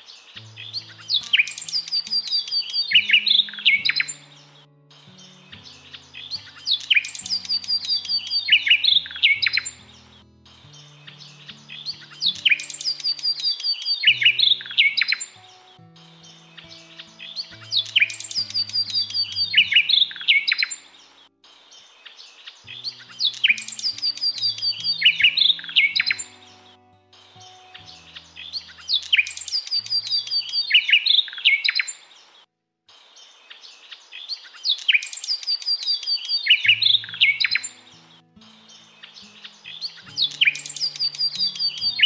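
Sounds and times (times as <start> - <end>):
songbird singing: 0.0 - 42.0
soft background music: 0.4 - 31.8, 35.8 - 42.0.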